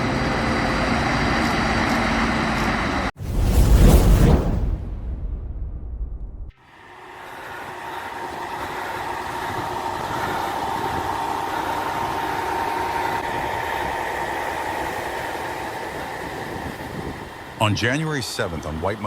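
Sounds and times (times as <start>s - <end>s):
heavy truck engines running: 0.0s - 3.1s, 6.7s - 19.0s.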